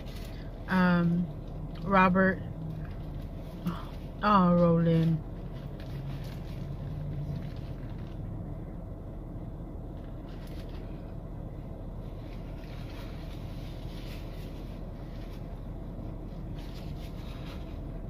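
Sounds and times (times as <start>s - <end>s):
car engine idling hum: 0.0s - 18.0s.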